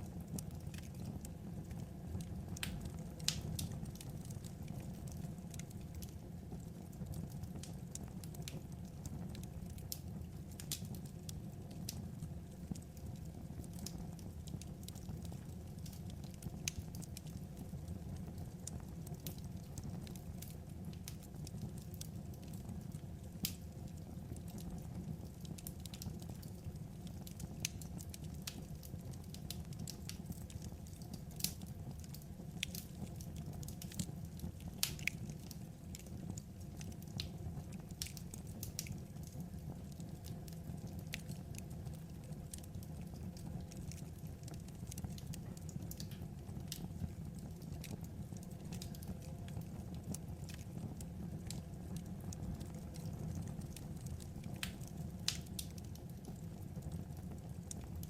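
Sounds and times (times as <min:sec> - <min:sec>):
fire crackles and pops: 0:00.0 - 0:58.0
wood fire rumble: 0:00.0 - 0:58.0.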